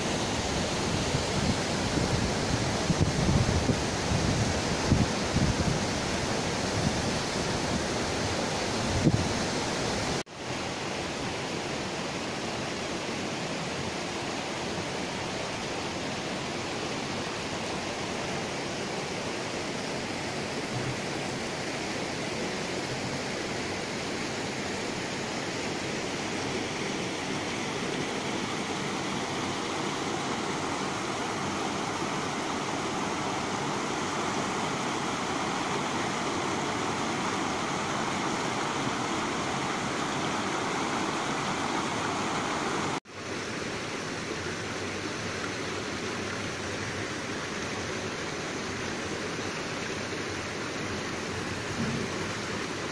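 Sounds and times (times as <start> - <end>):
river water rushing over rocks: 0.0 - 52.9.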